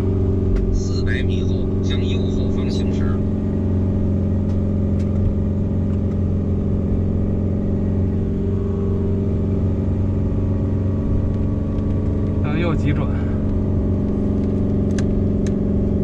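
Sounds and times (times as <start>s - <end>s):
van engine running under load: 0.0s - 16.0s.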